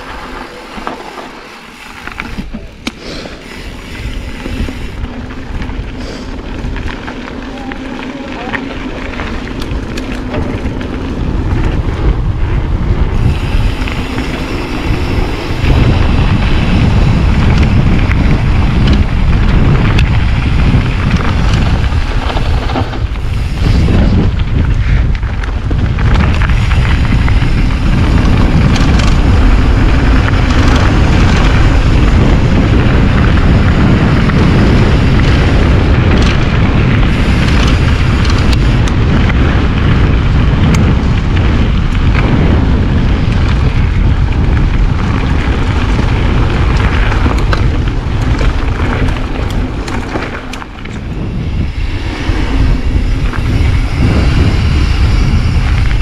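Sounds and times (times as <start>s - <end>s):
rush of bike ride: 0.0s - 56.0s
wind buffeting microphone: 0.0s - 56.0s.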